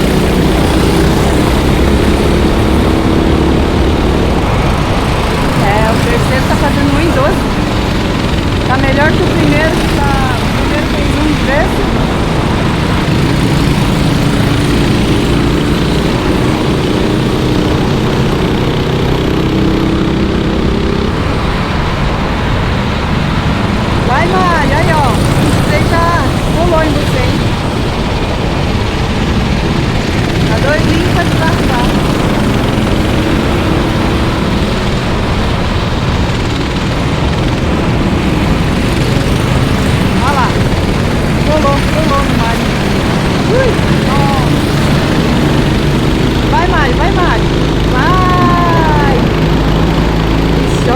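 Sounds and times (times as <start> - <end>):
kart engines racing: 0.0 - 50.9.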